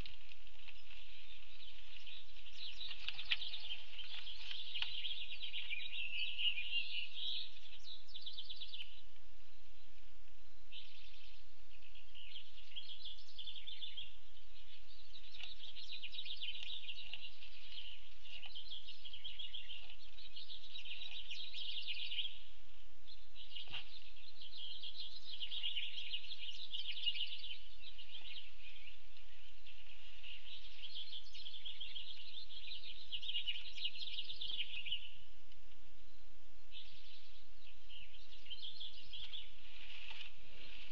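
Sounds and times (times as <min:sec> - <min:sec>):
small birds chirping and trilling: 0:00.0 - 0:40.9.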